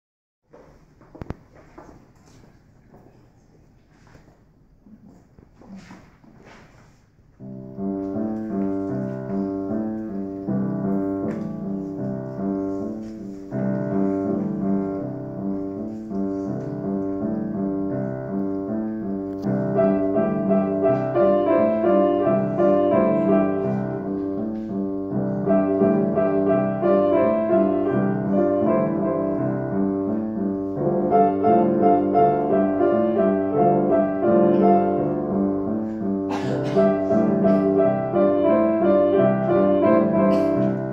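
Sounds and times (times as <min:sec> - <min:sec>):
piano duet: 0:07.1 - 0:40.9.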